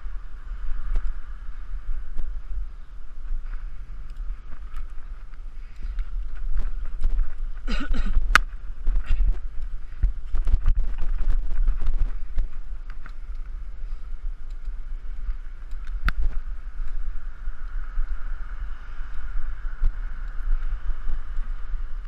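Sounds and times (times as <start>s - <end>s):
bike rattling over pavement: 0.0s - 22.0s
wind rumbling on microphone: 0.0s - 22.0s.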